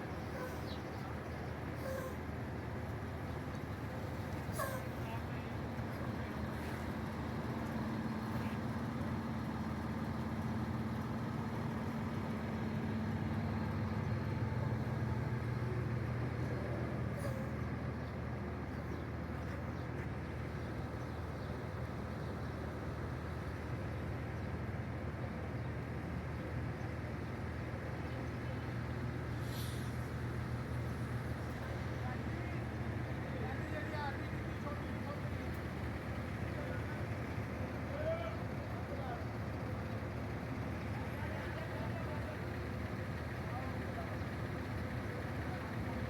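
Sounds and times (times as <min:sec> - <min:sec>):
diesel bus engine droning: 0:00.0 - 0:46.0.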